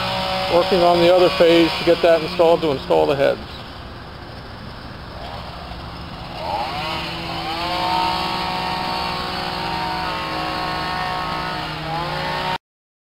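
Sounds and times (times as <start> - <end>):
engine revving: 0.0 - 3.4, 5.0 - 12.6.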